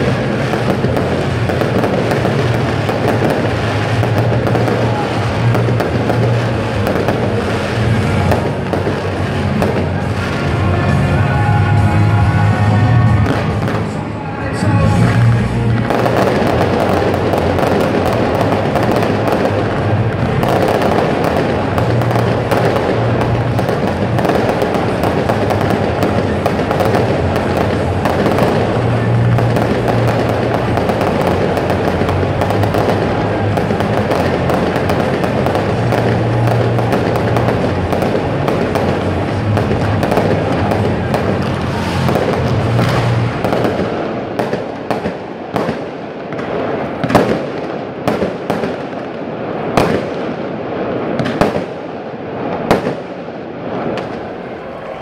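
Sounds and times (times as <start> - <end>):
music playing: 0.0 - 45.7
fireworks crackling and popping: 0.0 - 55.0.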